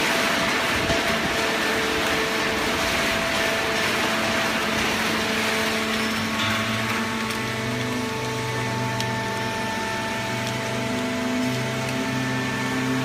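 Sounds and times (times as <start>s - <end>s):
hydraulic baler machine humming: 0.0s - 13.0s.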